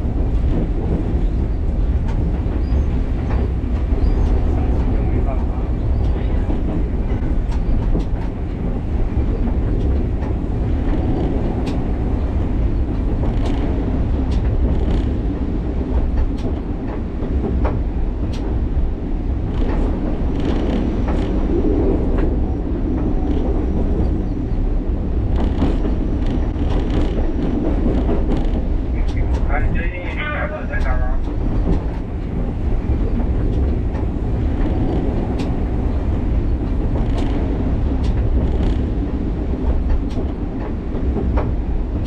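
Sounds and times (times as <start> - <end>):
train wheels rumbling on track: 0.0 - 42.0.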